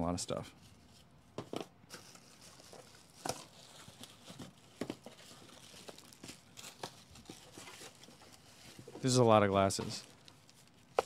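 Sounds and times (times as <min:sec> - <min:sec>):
packaging rustling and crinkling: 0:00.7 - 0:11.0.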